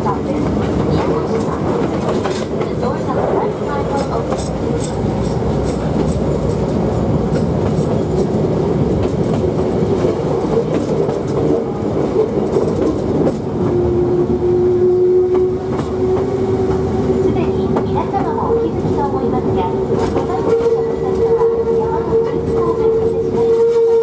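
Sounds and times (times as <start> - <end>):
train rumble inside carriage: 0.0 - 24.0.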